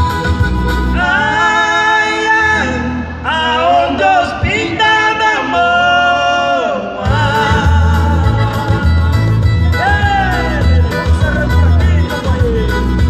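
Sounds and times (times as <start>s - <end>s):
electric keyboard: 0.0s - 4.5s, 7.0s - 13.0s
acoustic guitar: 0.0s - 13.0s
two men singing in harmony: 0.8s - 13.0s.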